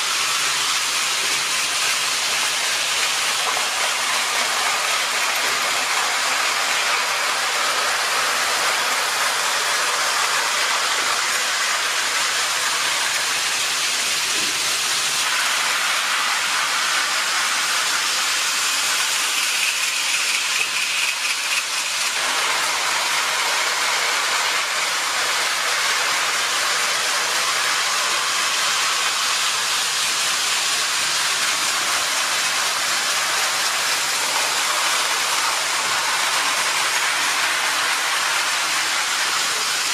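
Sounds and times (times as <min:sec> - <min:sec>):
model train wheels rattling on rails: 0:00.0 - 0:39.9.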